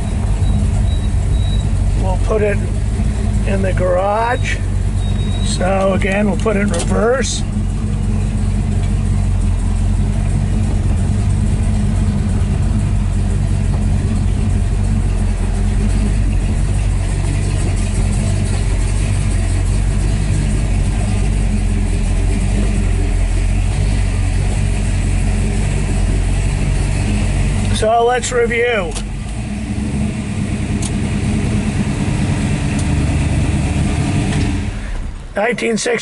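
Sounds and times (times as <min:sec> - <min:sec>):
car engine running low and steady: 0:00.0 - 0:36.0.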